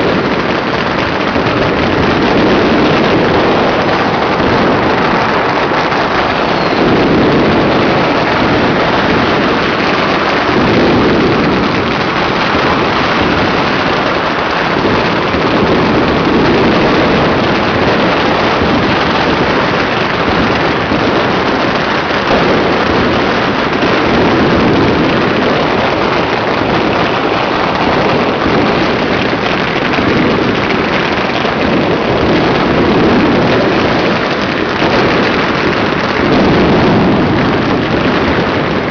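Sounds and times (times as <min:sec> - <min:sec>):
firecrackers crackling: 0:00.0 - 0:38.9.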